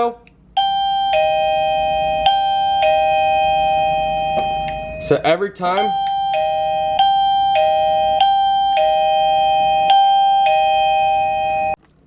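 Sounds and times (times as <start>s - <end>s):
door alarm chime melody: 0.6s - 5.2s, 5.8s - 11.8s.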